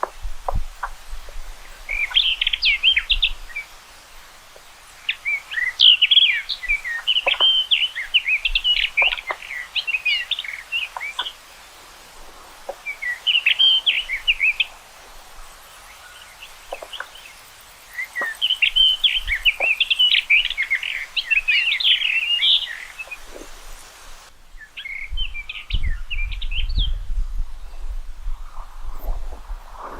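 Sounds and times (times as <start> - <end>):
bird warbling song: 0.0 - 29.9.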